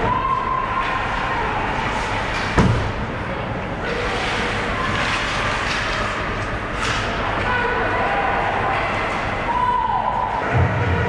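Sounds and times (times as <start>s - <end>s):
arena crowd noise: 0.0s - 11.0s.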